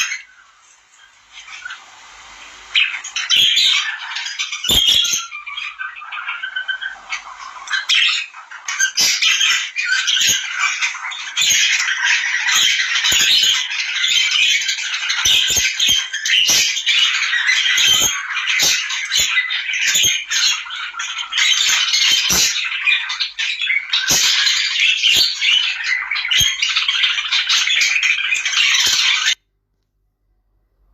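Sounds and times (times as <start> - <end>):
small birds chattering and squawking: 0.0 - 29.4.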